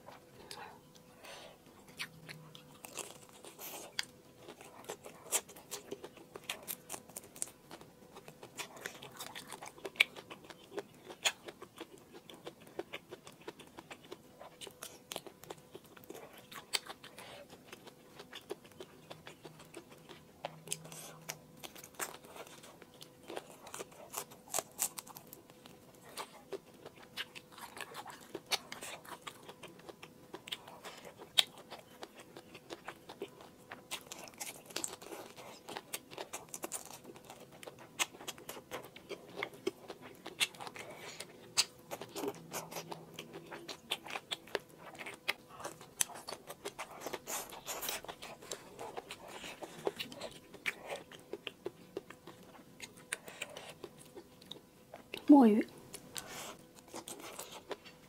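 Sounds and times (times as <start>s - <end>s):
person chewing and biting food: 0.0s - 55.3s, 55.9s - 58.0s
faint steady hum: 0.0s - 58.0s.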